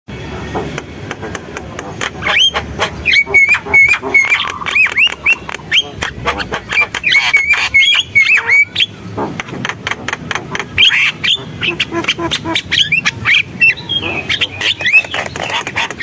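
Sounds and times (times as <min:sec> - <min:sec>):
bird singing varied song: 0:02.1 - 0:09.0, 0:09.9 - 0:16.0.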